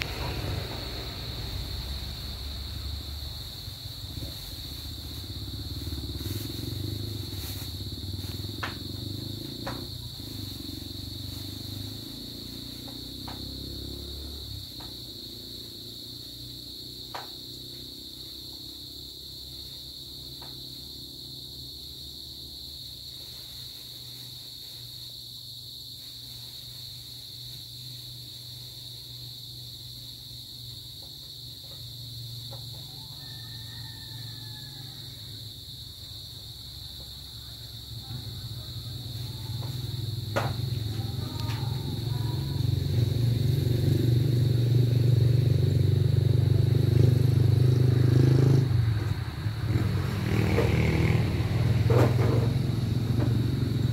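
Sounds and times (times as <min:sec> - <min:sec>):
distant traffic rumble: 0:00.0 - 0:25.1, 0:27.8 - 0:53.9
insects droning: 0:00.0 - 0:53.9.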